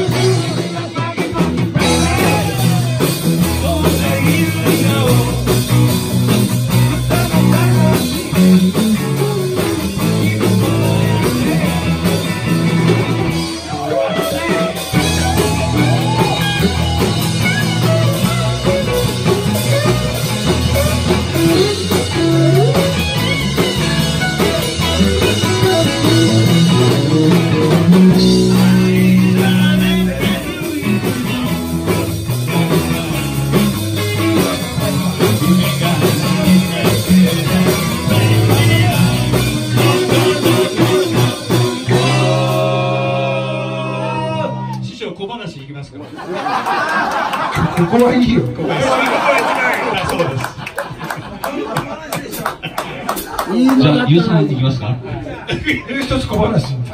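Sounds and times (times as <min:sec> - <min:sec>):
live rock band playing: 0:00.0 - 0:45.1, 0:52.2 - 0:56.9.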